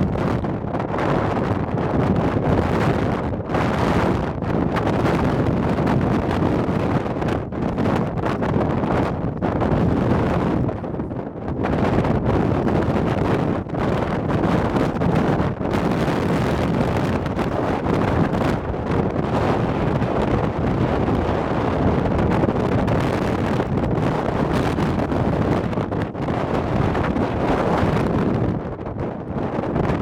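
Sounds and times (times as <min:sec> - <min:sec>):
strong wind on microphone: 0:00.0 - 0:30.0.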